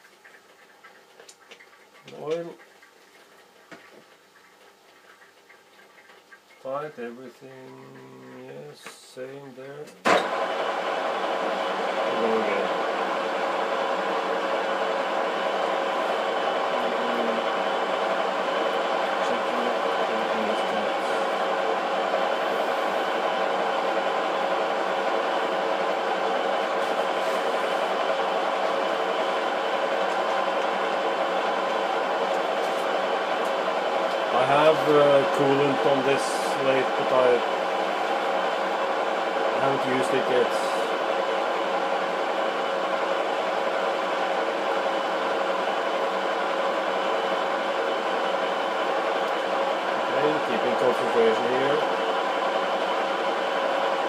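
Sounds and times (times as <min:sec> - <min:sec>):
metal lathe humming and whining: 0:10.3 - 0:54.0.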